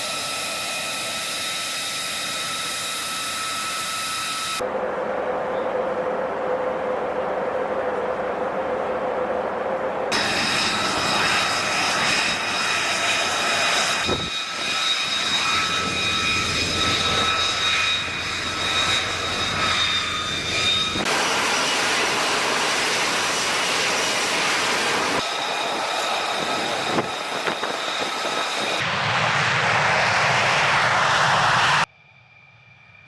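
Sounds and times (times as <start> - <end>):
jet engine high whine: 0.0 - 33.0.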